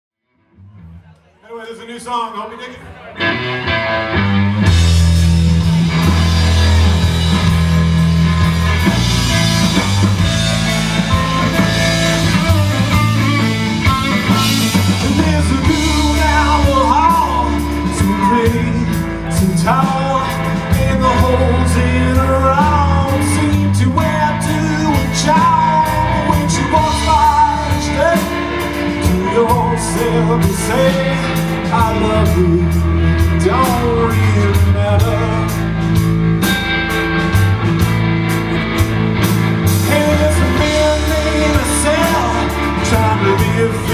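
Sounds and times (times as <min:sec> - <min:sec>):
bass guitar: 0:00.3 - 0:01.4, 0:02.8 - 0:43.9
electric guitar: 0:02.8 - 0:43.9
drum kit: 0:03.2 - 0:43.9.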